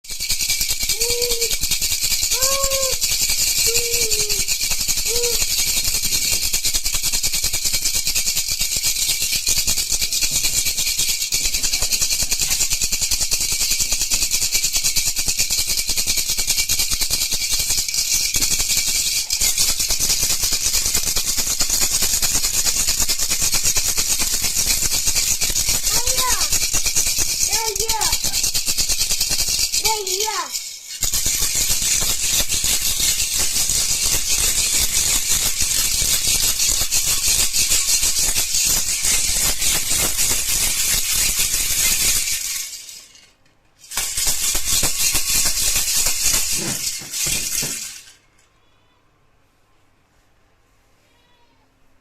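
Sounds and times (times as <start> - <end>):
baby rattle shaking: 0.0 - 48.3.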